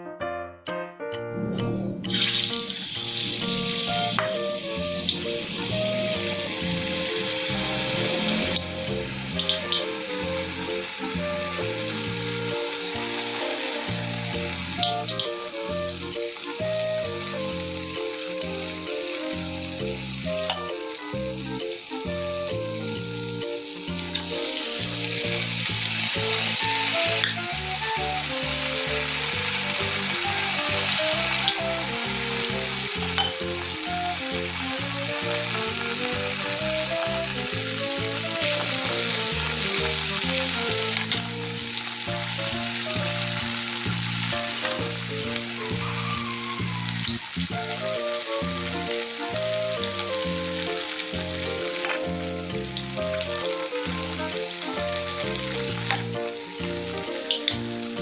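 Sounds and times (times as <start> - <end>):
food sizzling in hot oil: 2.0 - 58.0.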